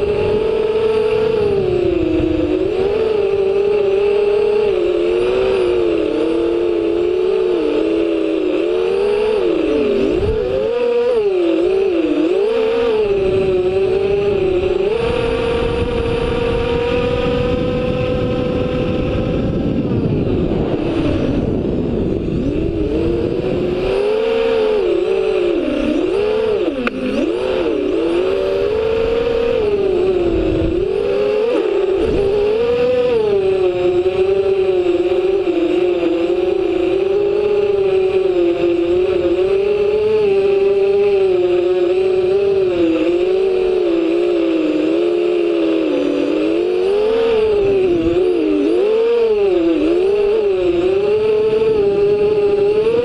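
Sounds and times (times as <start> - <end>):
drone motors whining: 0.0 - 53.0
wind rumble on microphone: 0.0 - 53.0.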